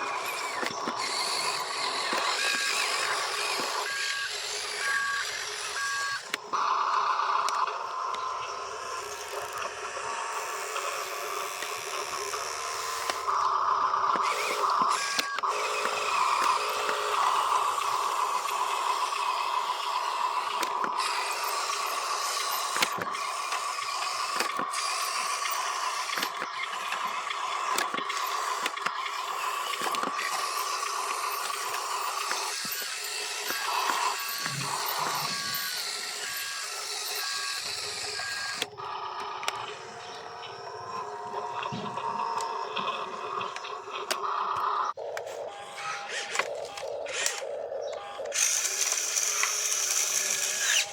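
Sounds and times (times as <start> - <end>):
clicks: 0.0 - 50.9
toy electric motor whine: 0.0 - 50.9.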